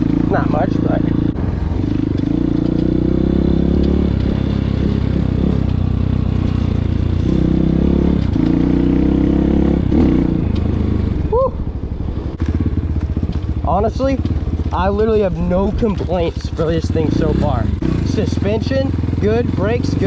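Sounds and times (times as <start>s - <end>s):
dirt bike engine revving: 0.0s - 11.3s, 12.1s - 20.0s.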